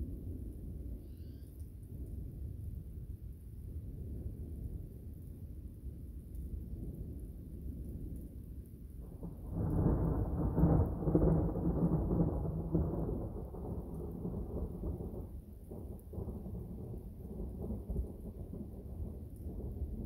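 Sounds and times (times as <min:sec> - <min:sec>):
thunder rumbling: 0:01.8 - 0:20.0.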